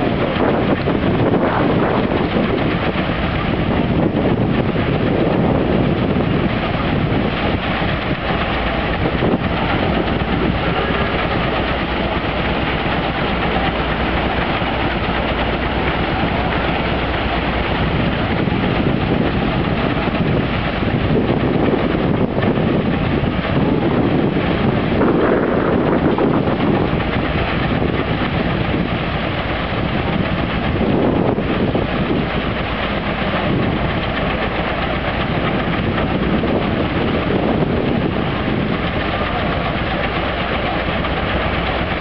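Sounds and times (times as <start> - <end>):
threshing machine rumble and rattle: 0.0 - 42.0.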